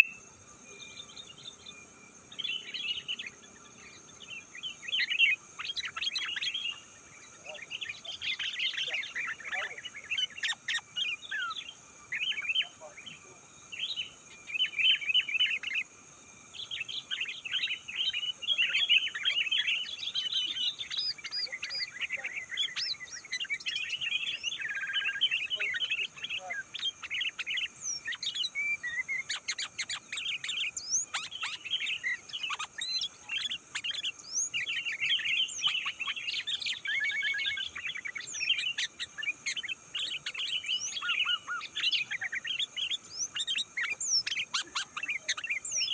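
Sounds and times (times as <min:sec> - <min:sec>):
bulbuls singing: 0:00.0 - 0:45.9
faint high hiss: 0:00.0 - 0:45.9.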